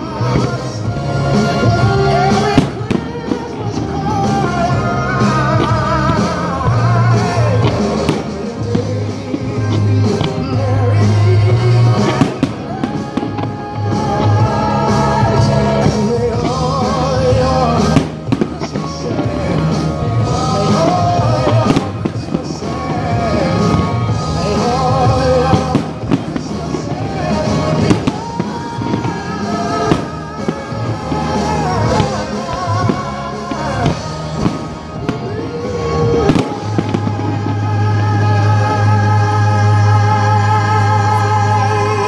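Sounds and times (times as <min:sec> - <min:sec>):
fireworks banging: 0:00.0 - 0:42.0
singer over heavy bass music: 0:00.0 - 0:42.0.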